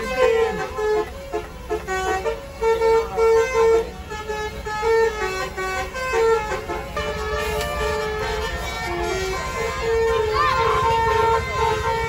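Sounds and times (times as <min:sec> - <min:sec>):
bus musical horn playing a tune: 0:00.0 - 0:12.0.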